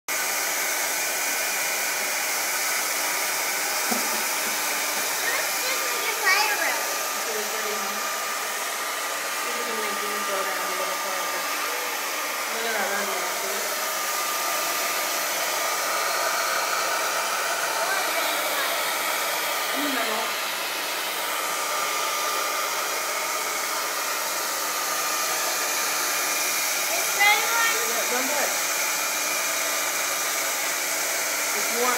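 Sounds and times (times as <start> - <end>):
hair dryer blowing air: 0.1 - 31.9
hair dryer motor whine: 0.1 - 31.9.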